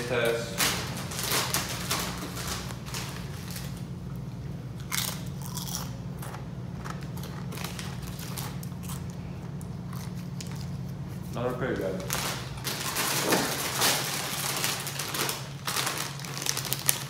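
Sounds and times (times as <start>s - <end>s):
steady low hum: 0.0s - 17.0s
chewing crisp tortilla chips: 1.0s - 11.4s, 12.1s - 17.0s.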